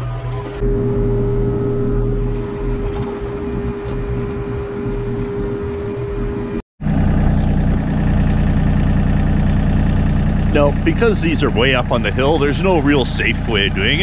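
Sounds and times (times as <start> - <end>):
excavator diesel engine running: 0.0 - 14.0
steady whine: 0.0 - 14.0.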